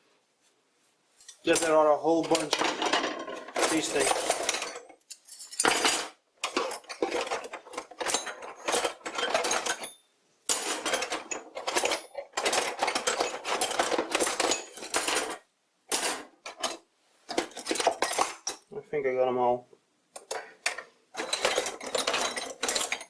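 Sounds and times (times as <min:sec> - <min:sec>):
metal parts clinking: 0:01.2 - 0:18.6, 0:20.2 - 0:23.0.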